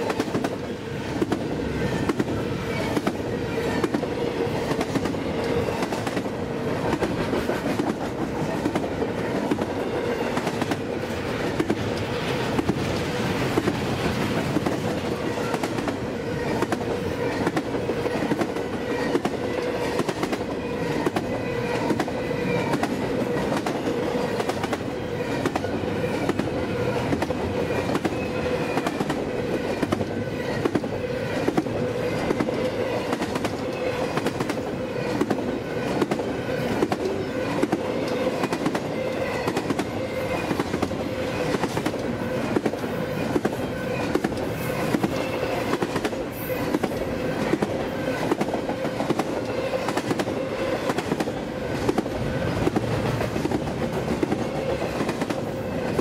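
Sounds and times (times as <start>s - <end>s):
clickety-clack over rail joints: 0.0s - 56.0s.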